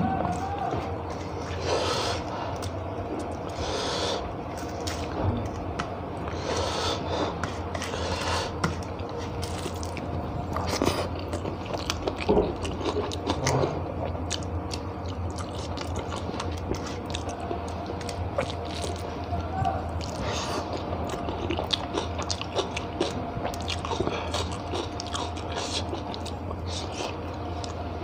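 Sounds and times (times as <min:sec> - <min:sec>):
steady low hum: 0:00.0 - 0:28.0
chewing and lip-smacking: 0:00.1 - 0:03.7, 0:07.3 - 0:27.9.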